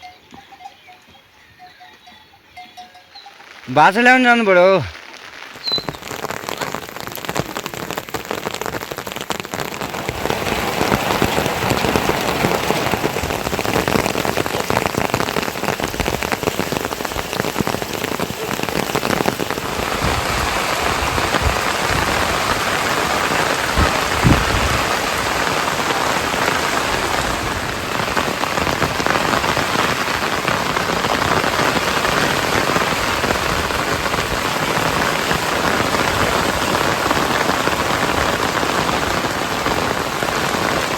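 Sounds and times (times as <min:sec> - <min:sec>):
rain falling: 0:03.0 - 0:40.9.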